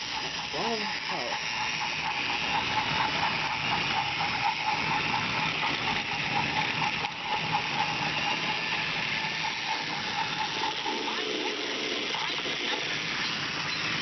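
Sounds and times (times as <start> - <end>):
toy train motor whirring and ticking: 0.0 - 14.0.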